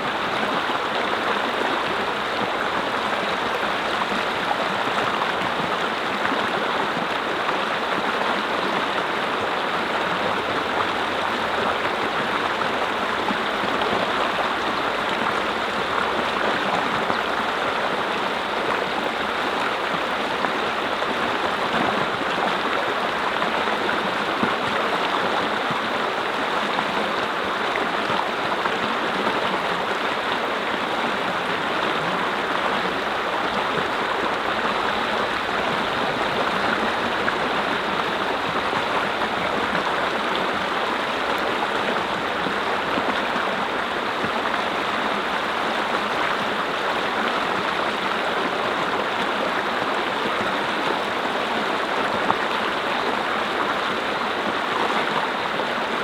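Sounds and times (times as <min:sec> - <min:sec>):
brook flowing over rocks: 0:00.0 - 0:56.0.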